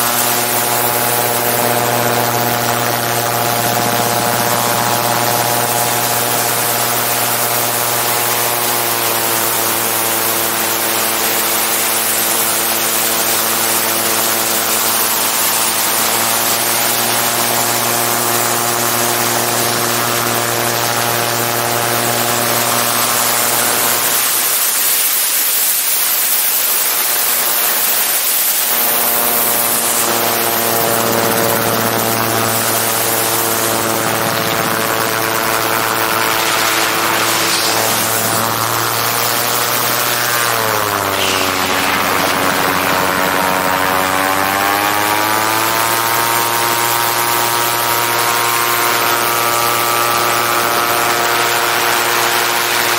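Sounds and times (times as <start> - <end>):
propeller engine running: 0.0 - 52.9.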